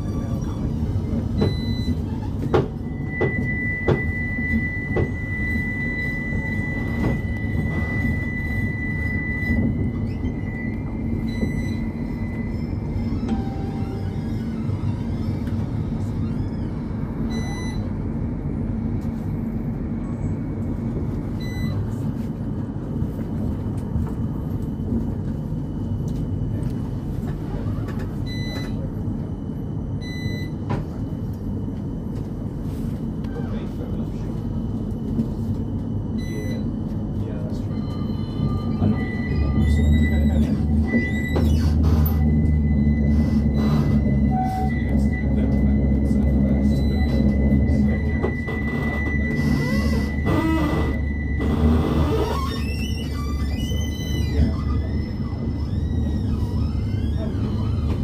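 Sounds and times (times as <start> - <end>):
tram rumbling on rails: 0.0 - 58.0.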